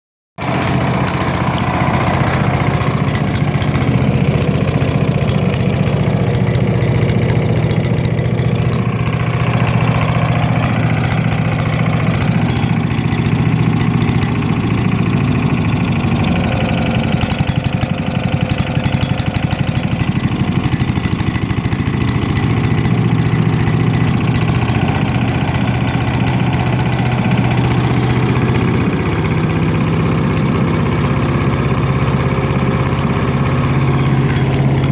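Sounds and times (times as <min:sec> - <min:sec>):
wood chipper engine running: 0:00.4 - 0:34.9.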